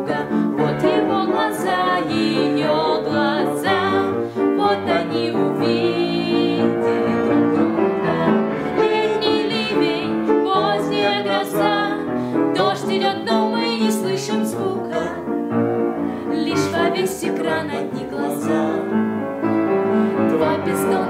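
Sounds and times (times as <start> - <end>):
woman singing with vibrato: 0.0 - 12.0, 12.6 - 15.2, 16.4 - 18.9, 20.3 - 21.0
piano accompaniment: 0.0 - 21.0.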